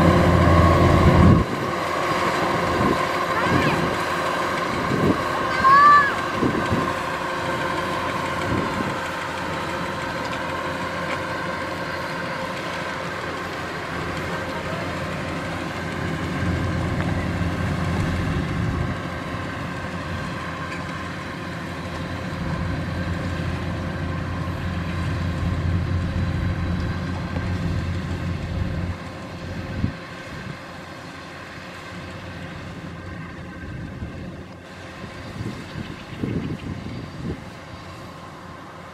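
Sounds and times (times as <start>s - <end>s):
combine harvester drone with whine: 0.0s - 38.9s.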